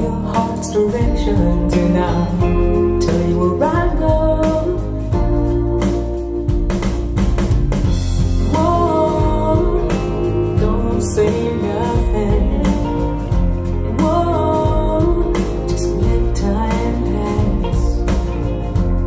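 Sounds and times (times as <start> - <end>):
woman singing: 0.0 - 5.6, 8.4 - 18.6
guitar bass and drums: 0.0 - 19.0.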